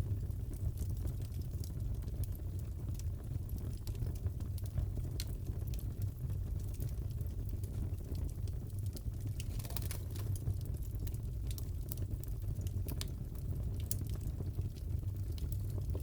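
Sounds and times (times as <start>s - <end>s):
fire crackling: 0.0s - 16.0s
flames rumbling: 0.0s - 16.0s.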